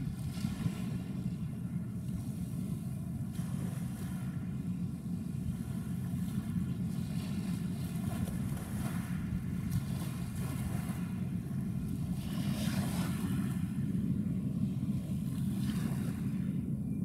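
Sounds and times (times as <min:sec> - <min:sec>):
boat engines rumbling: 0:00.0 - 0:17.0
wind buffeting microphone: 0:00.0 - 0:17.0.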